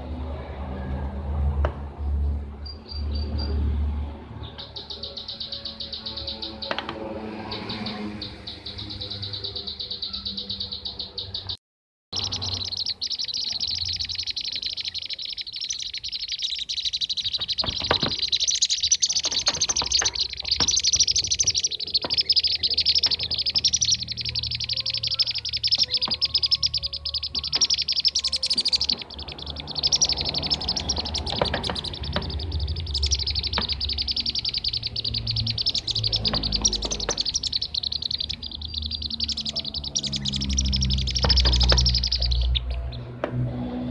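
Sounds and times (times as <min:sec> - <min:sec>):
rapid high bird chirps: 0:02.5 - 0:11.6, 0:12.2 - 0:43.2.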